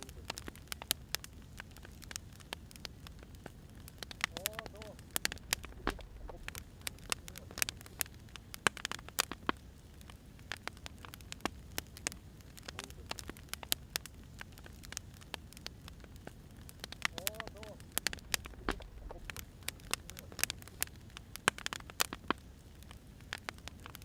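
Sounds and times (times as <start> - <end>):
firewood crackling and popping: 0.0 - 24.0
low steady hiss: 0.0 - 24.0.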